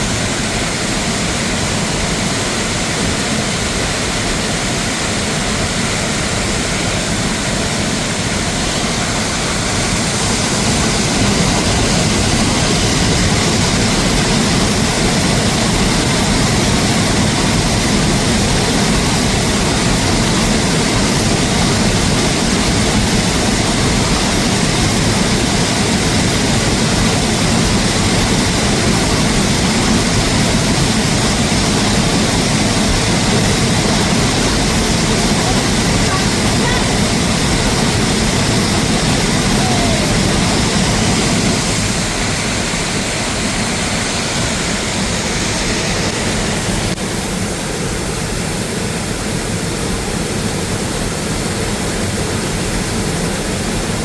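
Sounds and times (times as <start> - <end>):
rushing water hiss: 0.0 - 54.0.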